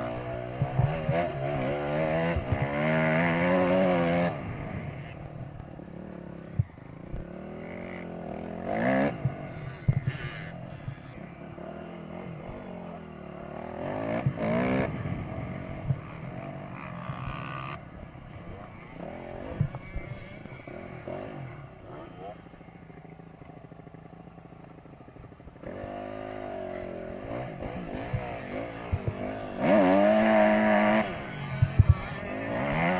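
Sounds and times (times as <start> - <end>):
dirt bike engines revving: 0.0 - 32.9.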